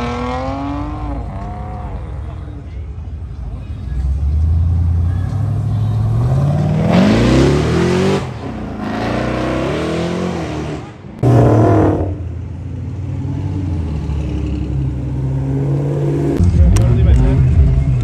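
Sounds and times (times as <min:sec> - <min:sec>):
cars driving past: 0:00.0 - 0:16.5
car engines revving: 0:00.0 - 0:18.0.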